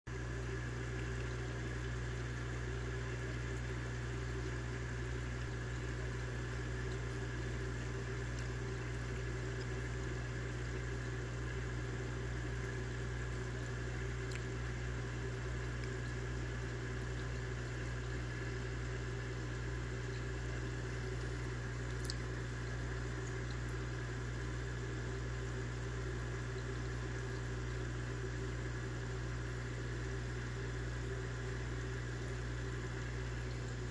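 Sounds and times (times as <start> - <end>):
aquarium equipment humming: 0.1 - 33.9
faint moving water: 0.1 - 33.9.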